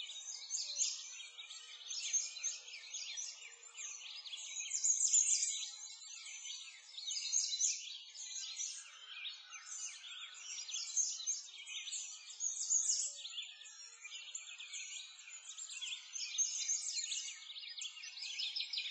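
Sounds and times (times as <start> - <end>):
songbirds chirping and trilling: 0.0 - 18.9.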